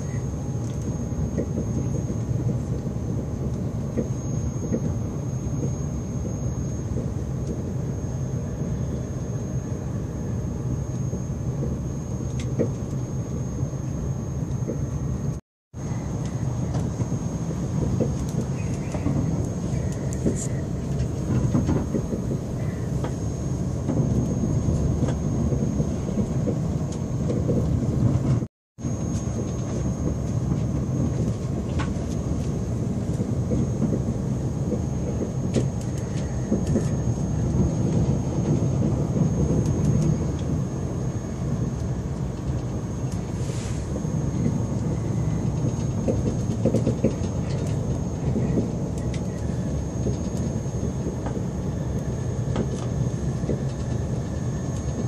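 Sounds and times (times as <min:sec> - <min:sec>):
faint high whine: 0:00.0 - 0:27.3, 0:28.8 - 0:55.0
train wheels rumbling on rails: 0:00.0 - 0:55.0.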